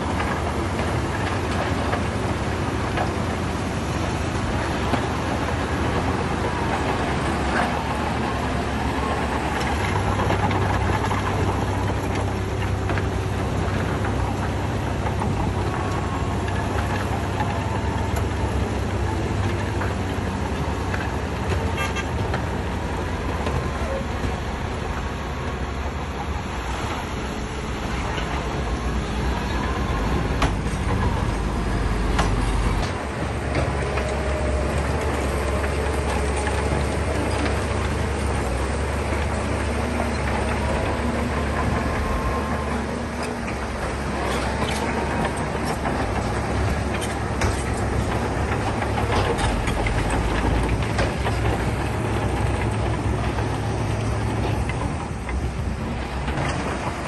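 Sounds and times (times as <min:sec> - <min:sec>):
heavy diesel engines under load: 0:00.0 - 0:57.0.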